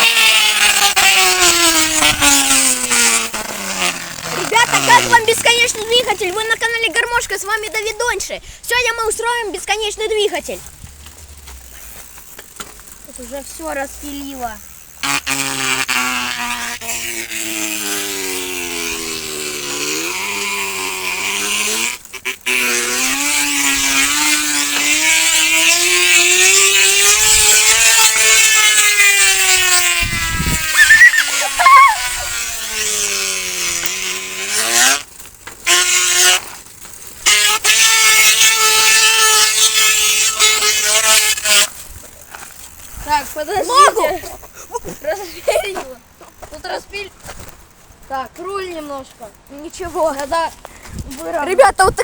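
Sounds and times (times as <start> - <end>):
small motor running: 0.0 - 52.0.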